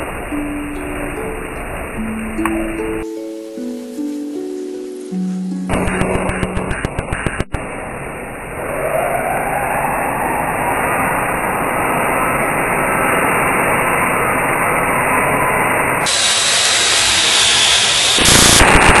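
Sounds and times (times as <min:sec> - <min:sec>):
loud steady noise: 0:00.0 - 0:19.0.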